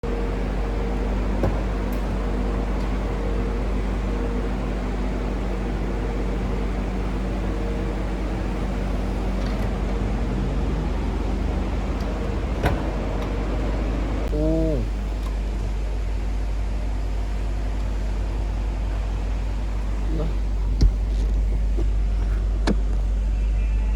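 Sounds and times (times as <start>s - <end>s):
car engine running: 0.0s - 23.3s
convertible top motor hum: 0.0s - 23.9s.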